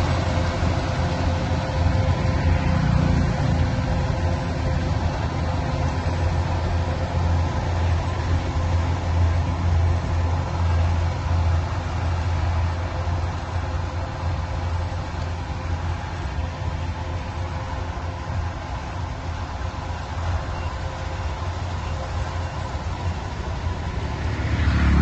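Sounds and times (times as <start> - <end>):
farm machinery engine running: 0.0 - 25.0.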